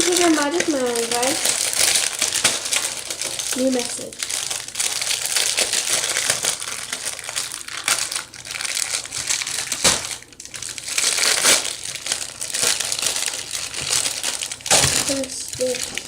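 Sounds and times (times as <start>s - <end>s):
packaging crackling and rustling: 0.0s - 16.0s.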